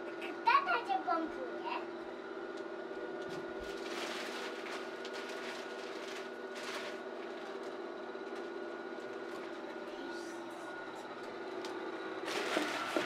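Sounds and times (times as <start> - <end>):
blower fan humming: 0.0 - 13.0.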